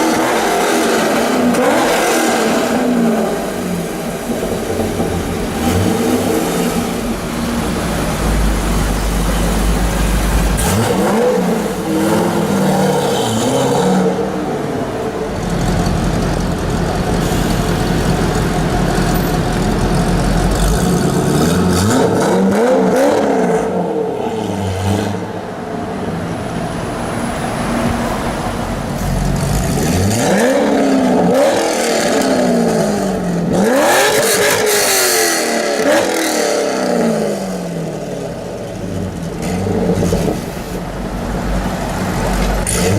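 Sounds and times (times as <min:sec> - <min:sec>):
car engine revving and idling: 0:00.0 - 0:42.9.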